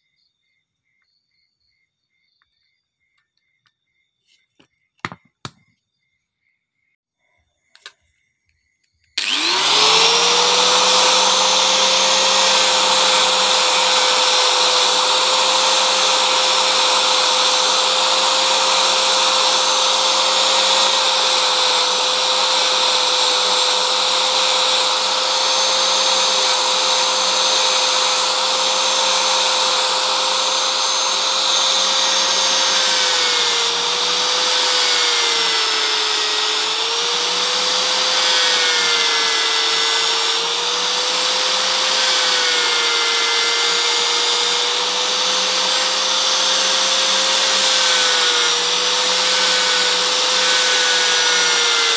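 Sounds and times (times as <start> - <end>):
angle grinder whining: 9.1 - 51.9
wood being sanded: 9.2 - 51.9.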